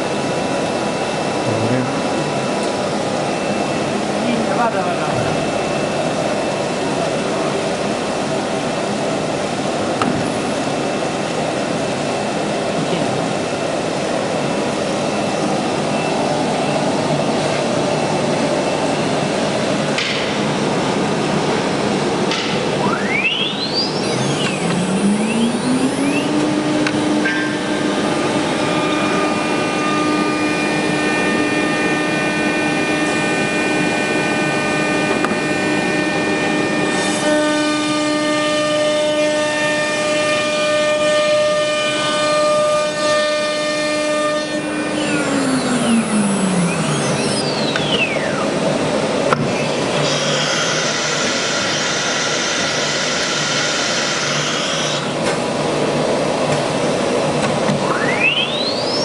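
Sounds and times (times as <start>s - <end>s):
higher steady whines: 0.0s - 43.5s, 44.2s - 59.0s
spindle motor whine: 0.0s - 59.0s
steady machine noise: 0.0s - 59.0s.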